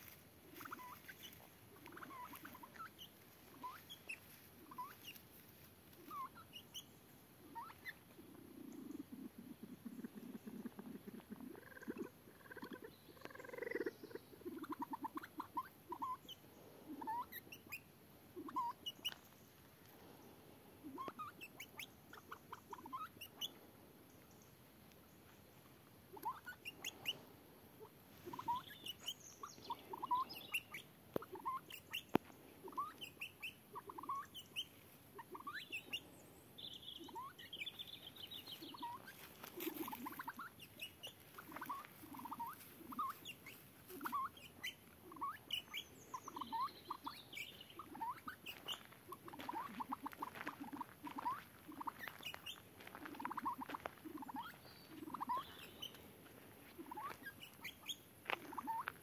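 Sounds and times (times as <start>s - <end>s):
pheasant squeaky chirps: 0.0s - 19.4s, 20.8s - 23.6s, 26.1s - 59.0s.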